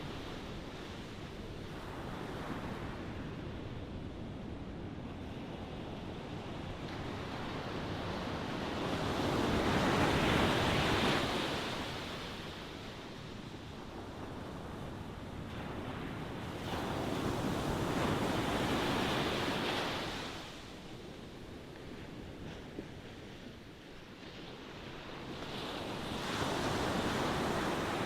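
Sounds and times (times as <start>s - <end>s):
ocean waves on shore: 0.0s - 28.0s.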